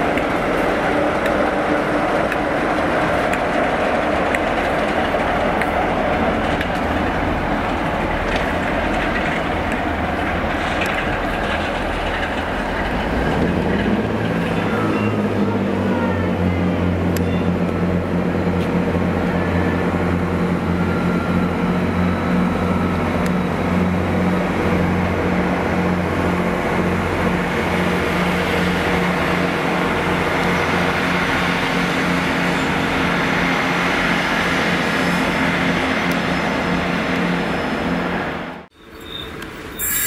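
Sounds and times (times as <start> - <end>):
diesel locomotive engine humming: 0.0 - 40.0
wheel and rail noise: 0.0 - 40.0.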